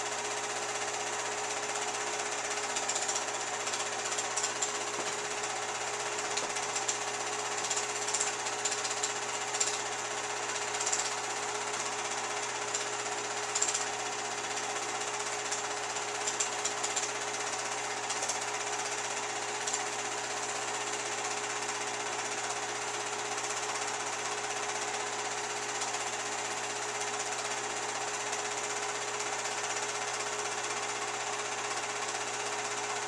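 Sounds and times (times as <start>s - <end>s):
film projector whirring: 0.0s - 33.0s.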